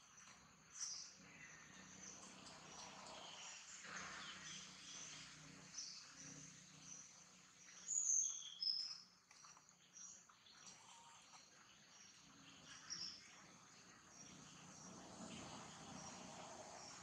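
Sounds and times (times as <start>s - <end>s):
insects and birds chirping: 0.0s - 17.0s.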